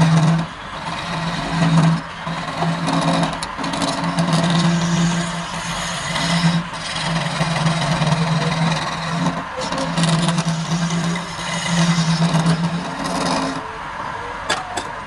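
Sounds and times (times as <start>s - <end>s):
chisel scraping spinning wood: 0.0s - 13.7s
wood lathe humming: 0.0s - 13.7s.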